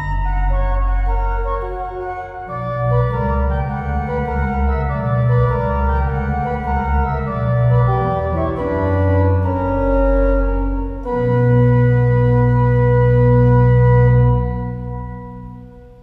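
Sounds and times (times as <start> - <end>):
pipe organ playing: 0.0 - 16.0.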